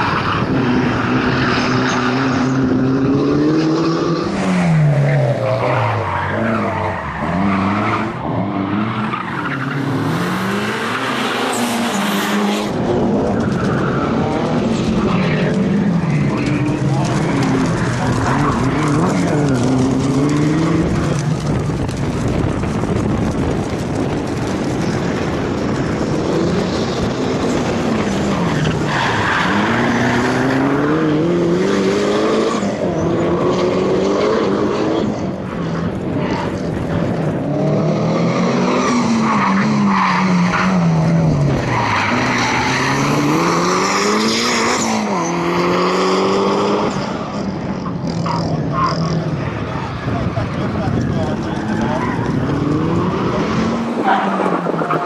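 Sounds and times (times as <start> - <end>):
rally car engine revving: 0.0 - 55.0
tyres skidding and squealing: 0.0 - 55.0.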